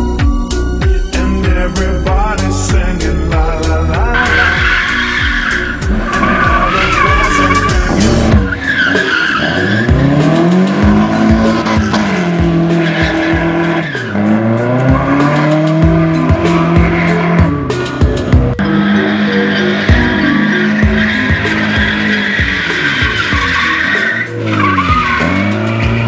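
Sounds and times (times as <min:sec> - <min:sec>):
music: 0:00.0 - 0:26.0
car engine revving: 0:03.4 - 0:26.0
tyres squealing: 0:04.0 - 0:18.0, 0:18.6 - 0:26.0.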